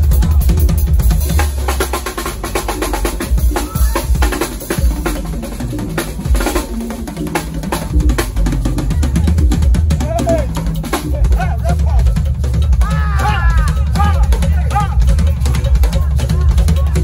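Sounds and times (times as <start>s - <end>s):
drum kit played fast: 0.0s - 17.0s.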